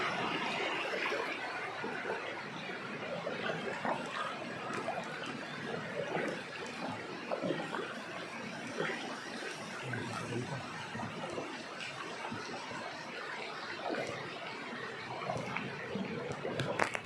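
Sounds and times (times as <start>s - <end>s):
paddle strokes in water: 0.0s - 17.0s
river water rushing and splashing: 0.0s - 17.0s.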